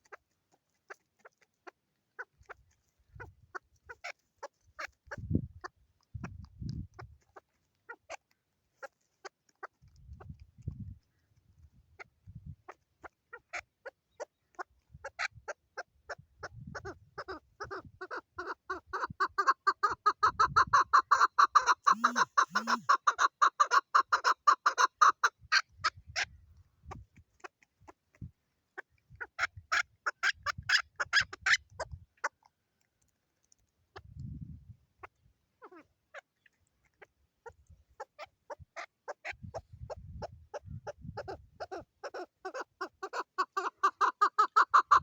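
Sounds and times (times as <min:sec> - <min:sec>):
partridge chuck calls: 0:00.0 - 0:11.4, 0:12.0 - 0:32.5, 0:35.0 - 0:45.0.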